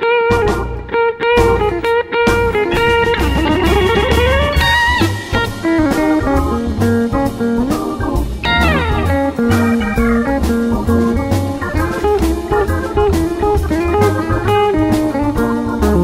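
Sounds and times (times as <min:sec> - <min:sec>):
blues guitar: 0:00.0 - 0:16.0
steady drum beat: 0:01.4 - 0:16.0.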